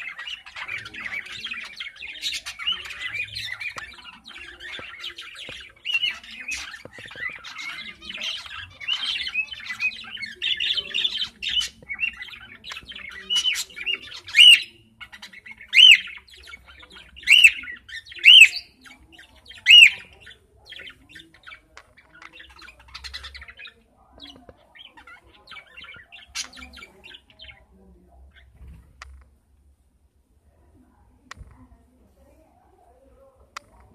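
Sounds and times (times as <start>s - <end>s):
budgerigars chattering and warbling: 0.0s - 28.9s.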